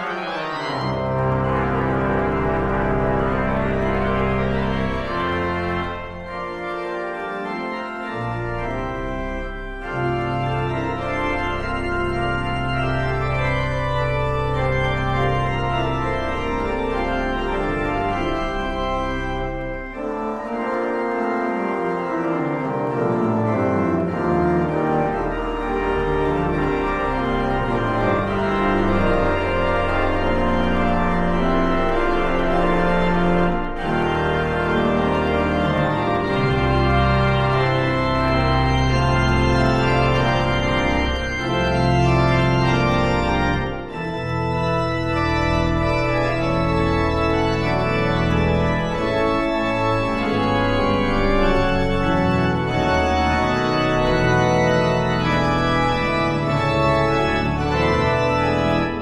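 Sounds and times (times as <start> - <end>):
organ playing sustained chords: 0.0 - 59.0.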